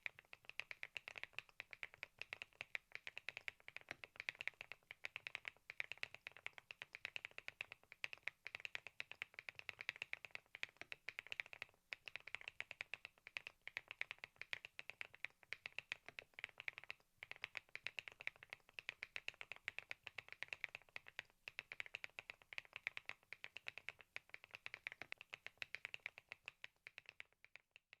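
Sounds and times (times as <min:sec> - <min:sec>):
mechanical keyboard typing: 0:00.1 - 0:27.3.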